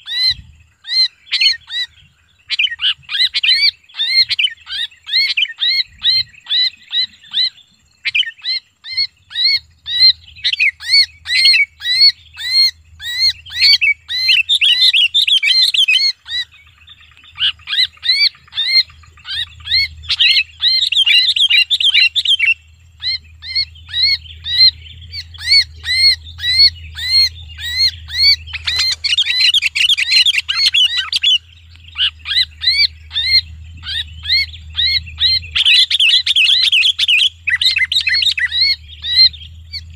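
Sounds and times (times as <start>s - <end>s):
bird distress calls: 0.0s - 39.9s.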